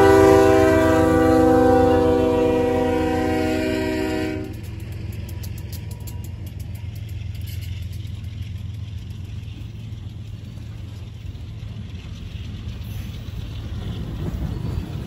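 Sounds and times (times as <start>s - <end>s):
freight cars rumbling on rails: 0.0s - 15.0s.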